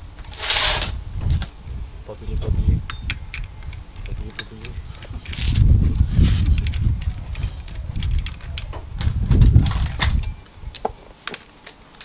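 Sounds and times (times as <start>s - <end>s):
low rumbling handling noise: 0.0s - 12.0s
metal parts clinking: 0.2s - 1.6s, 2.8s - 5.7s, 6.3s - 12.0s.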